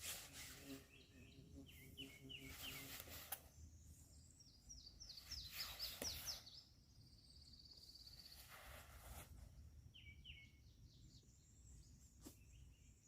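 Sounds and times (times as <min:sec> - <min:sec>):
faint bird song: 0:00.0 - 0:13.0.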